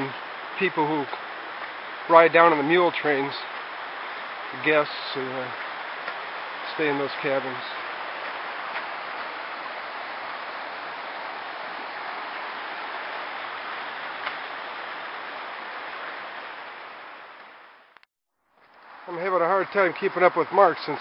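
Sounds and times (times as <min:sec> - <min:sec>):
creek water running over rocks: 0:00.0 - 0:17.8, 0:18.6 - 0:21.0.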